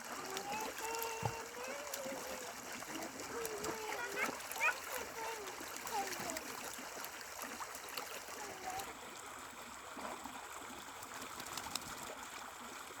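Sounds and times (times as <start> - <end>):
running trickling water: 0.0 - 13.0
water splashes and drips: 0.0 - 13.0.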